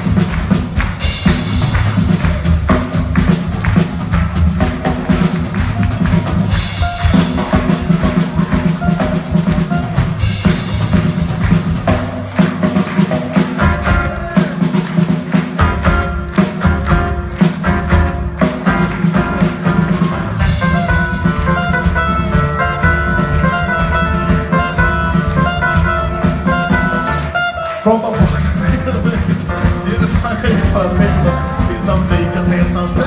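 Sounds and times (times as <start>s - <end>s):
busy drum beat: 0.0s - 33.0s
live band playing samba: 0.0s - 33.0s.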